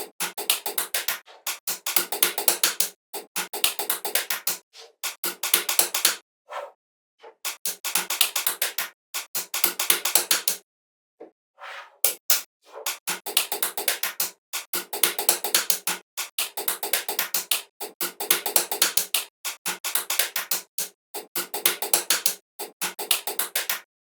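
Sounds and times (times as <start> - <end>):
rapid sharp clicks: 0.0 - 6.2, 7.4 - 10.6, 12.1 - 23.9.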